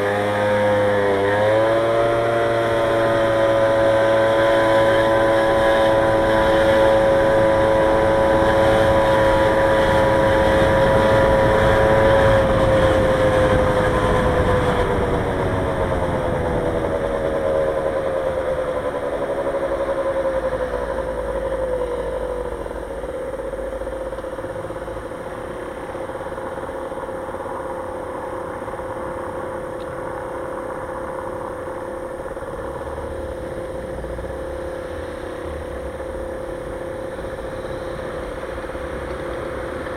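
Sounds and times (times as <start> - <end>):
road and wind rush: 0.0 - 39.9
vehicle engine whine: 0.0 - 39.9.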